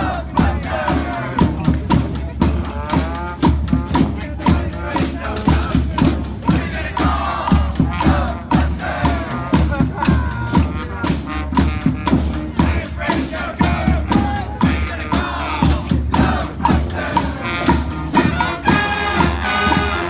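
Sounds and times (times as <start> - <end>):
steady drum beat: 0.0 - 20.0
street band playing: 0.0 - 20.0.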